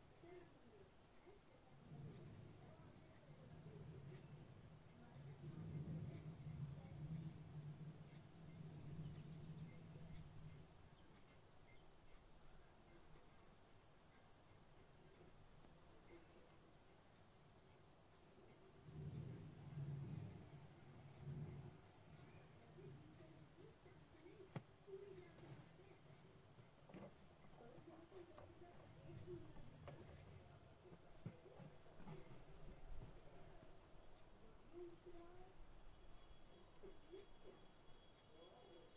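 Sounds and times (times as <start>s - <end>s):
soft low rumbles: 0.0s - 37.6s
insect chirping: 0.0s - 38.9s.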